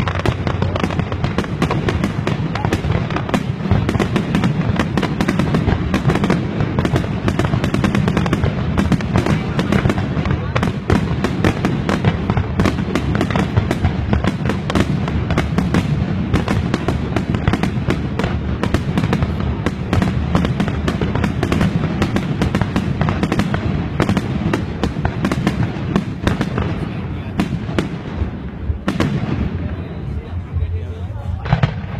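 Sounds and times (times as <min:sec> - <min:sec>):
fireworks bangs and crackles: 0:00.0 - 0:31.9
steady low rumble: 0:00.0 - 0:31.9.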